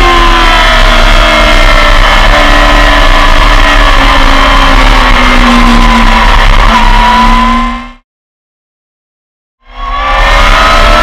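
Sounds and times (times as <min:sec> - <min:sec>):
racing motorcycle engine high revs: 0:00.0 - 0:08.0, 0:09.9 - 0:11.0.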